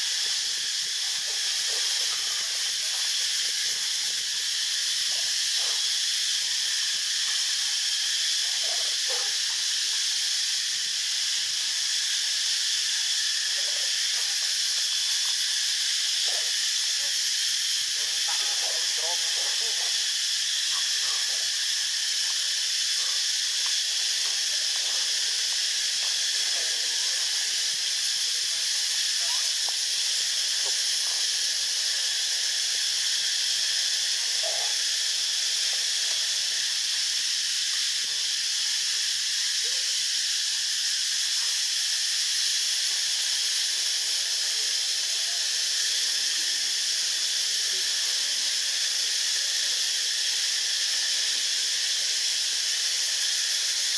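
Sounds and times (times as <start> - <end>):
high-pitched hiss: 0.0 - 53.9.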